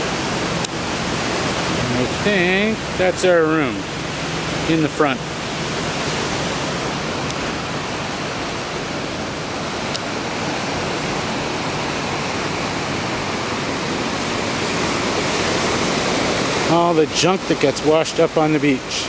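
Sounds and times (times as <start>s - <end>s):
surf breaking on sandy beach: 0.0s - 19.0s.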